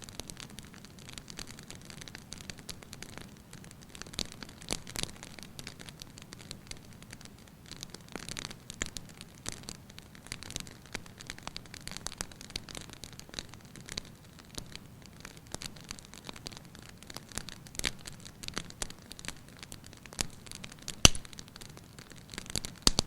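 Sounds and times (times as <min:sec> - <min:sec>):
wood fire crackling and popping: 0:00.0 - 0:23.0
low rumble of flames: 0:00.1 - 0:23.0.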